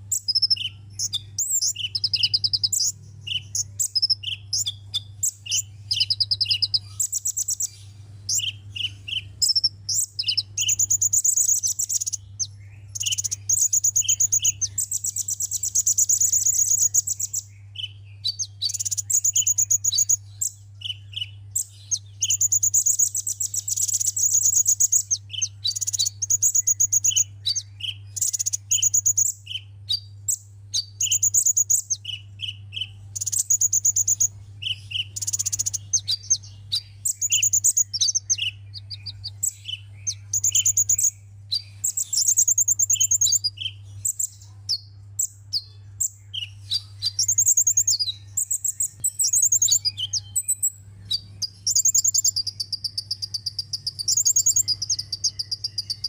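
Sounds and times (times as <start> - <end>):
small bird chirping and trilling: 0.0 - 56.0
steady low hum: 0.0 - 56.0.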